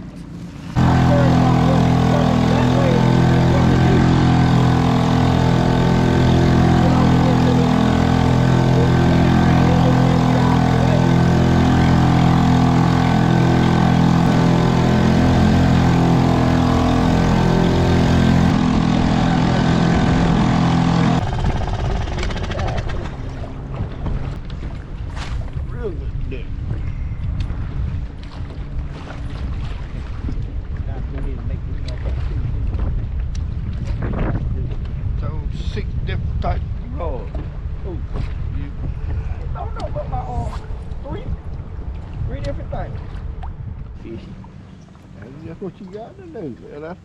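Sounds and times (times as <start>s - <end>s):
boat motor running: 0.0s - 47.0s.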